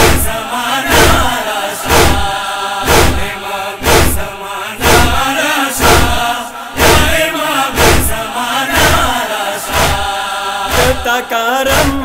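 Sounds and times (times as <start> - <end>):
chest beating thumps: 0.0 - 11.1, 11.7 - 12.0
voices chanting a lament: 0.0 - 12.0.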